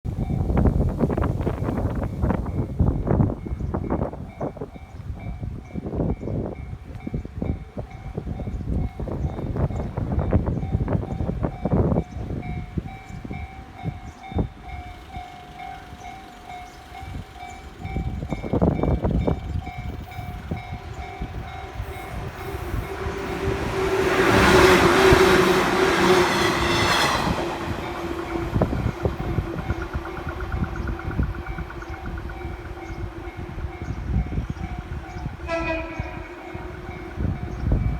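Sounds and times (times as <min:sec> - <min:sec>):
train passing: 0:00.1 - 0:37.9.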